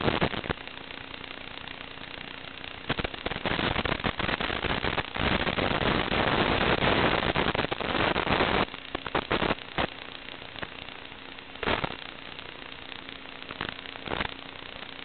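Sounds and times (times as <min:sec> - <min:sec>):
crackling static hiss: 0:00.0 - 0:15.0.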